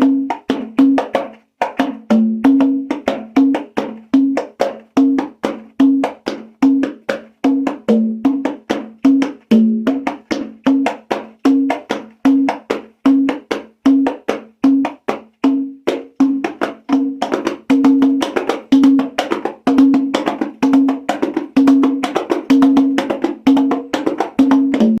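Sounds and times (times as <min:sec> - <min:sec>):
conga played by hand: 0:00.0 - 0:25.0.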